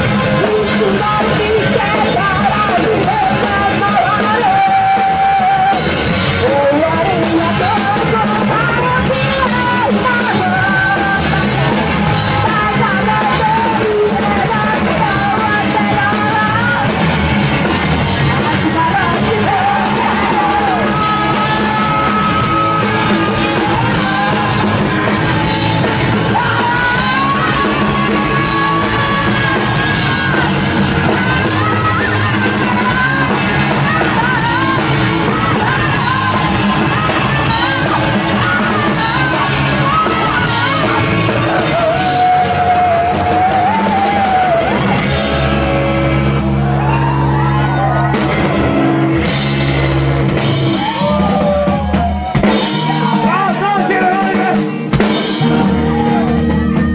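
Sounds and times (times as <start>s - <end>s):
person singing: 0.0s - 49.4s, 50.4s - 56.9s
live rock band playing: 0.0s - 56.9s.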